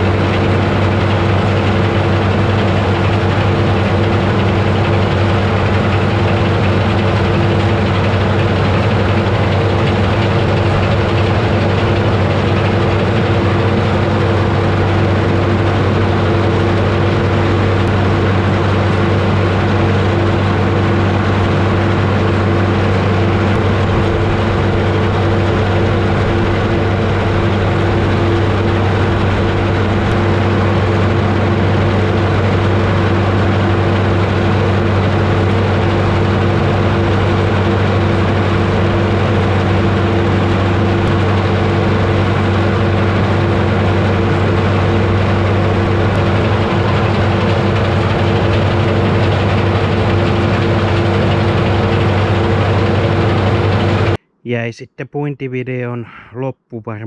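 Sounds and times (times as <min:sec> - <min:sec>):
combine harvester droning: 0:00.0 - 0:54.2.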